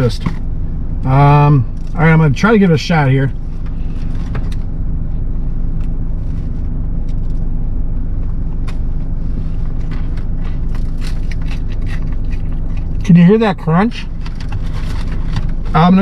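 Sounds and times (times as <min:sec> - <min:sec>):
car low hum: 0:00.0 - 0:16.0.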